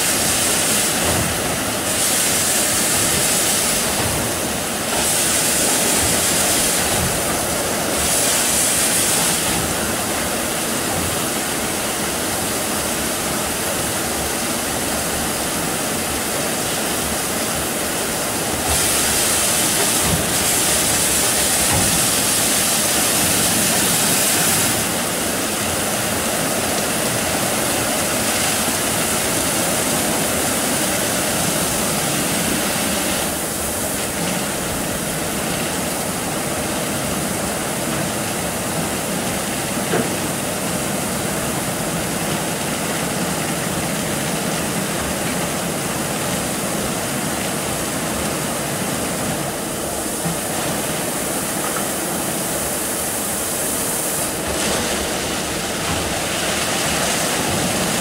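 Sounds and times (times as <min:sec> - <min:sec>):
water jets spraying on a car: 0:00.0 - 0:58.0.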